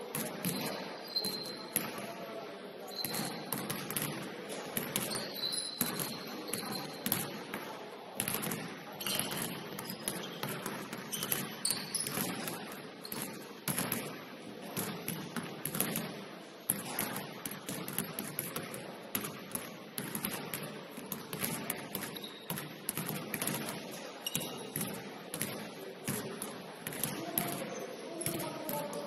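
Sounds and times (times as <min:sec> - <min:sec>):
basketballs bouncing on hardwood: 0:00.1 - 0:02.0, 0:03.0 - 0:29.0.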